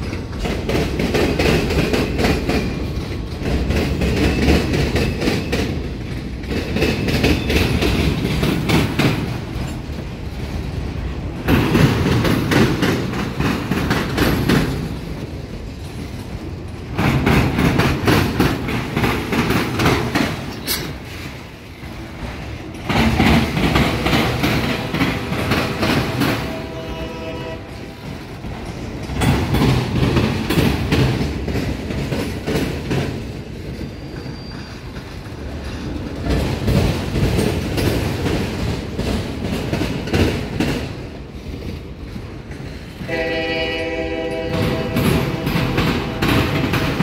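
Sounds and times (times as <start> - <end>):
train wheels clattering over crossing: 0.0 - 47.0.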